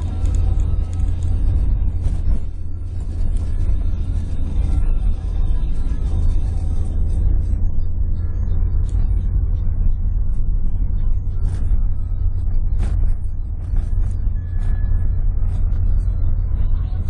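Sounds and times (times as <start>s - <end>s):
car interior low rumble: 0.0s - 17.0s.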